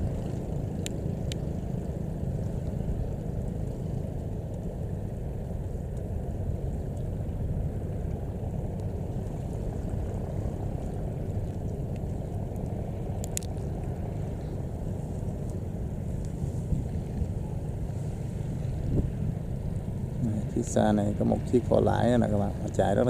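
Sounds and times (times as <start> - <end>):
boat engine rumbling: 0.0 - 23.0.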